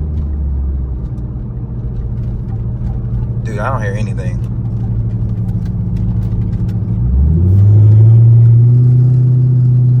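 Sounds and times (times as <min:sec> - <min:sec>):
car engine accelerating: 0:00.0 - 0:10.0
road noise inside car: 0:00.0 - 0:10.0.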